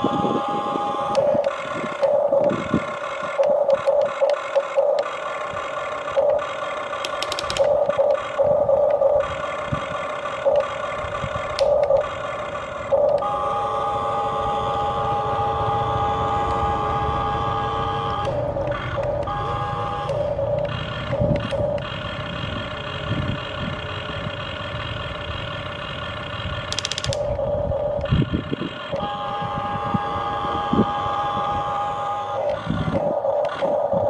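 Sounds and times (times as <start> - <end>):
toy excavator motors whining: 0.0 - 34.0.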